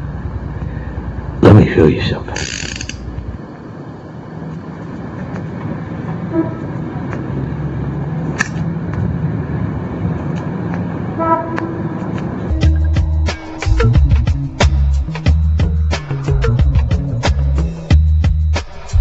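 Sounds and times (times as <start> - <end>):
car engine: 0.0 - 19.0
road noise: 0.0 - 19.0.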